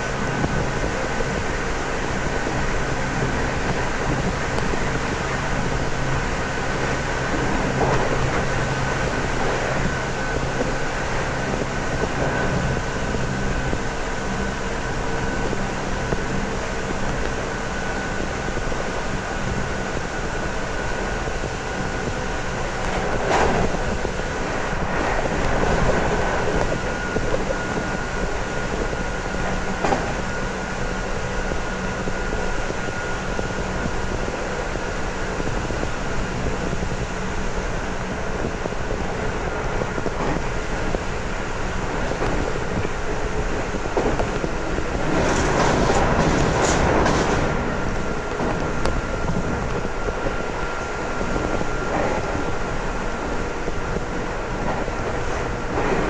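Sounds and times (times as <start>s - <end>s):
traction motor whine: 0.0s - 56.0s
train rolling noise: 0.0s - 56.0s.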